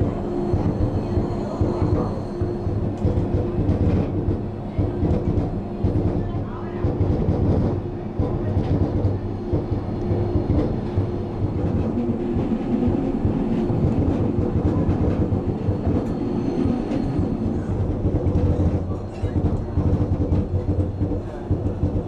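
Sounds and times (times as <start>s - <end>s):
train wheels rumbling on rails: 0.0s - 22.0s
wheels clickety-clack: 0.5s - 22.0s.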